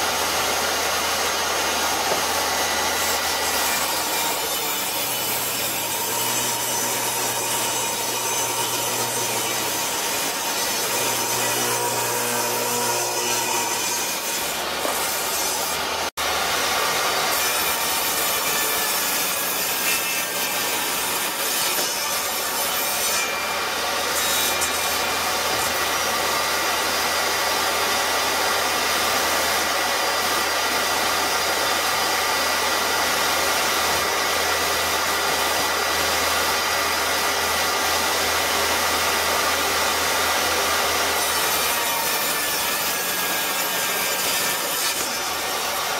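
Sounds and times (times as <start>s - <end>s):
table saw cutting hardwood: 0.0s - 45.9s.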